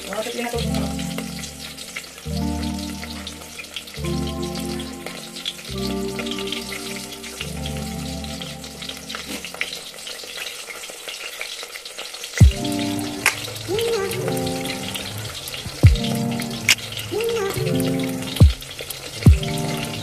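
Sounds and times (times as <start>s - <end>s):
background music: 0.0s - 10.3s, 12.4s - 20.0s
fish frying in oil: 0.0s - 20.0s.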